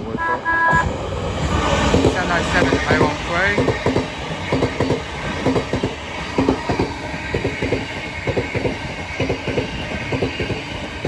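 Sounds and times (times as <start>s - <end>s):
train rumble: 0.0s - 11.0s
train wheels clattering: 0.8s - 11.0s.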